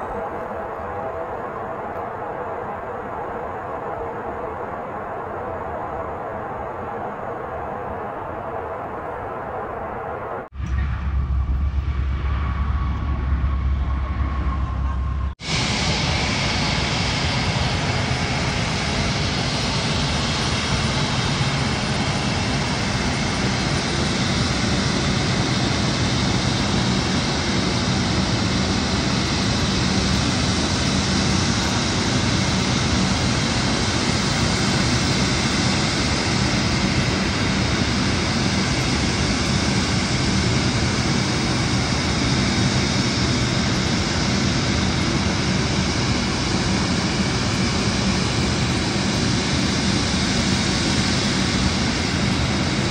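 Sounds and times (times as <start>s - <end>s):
jet engines rushing: 0.0s - 52.9s.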